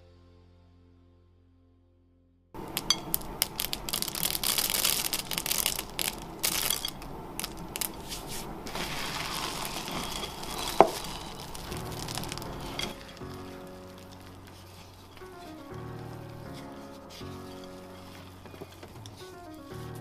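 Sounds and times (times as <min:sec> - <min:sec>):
spoon scraping cookie dough: 0:02.8 - 0:20.0.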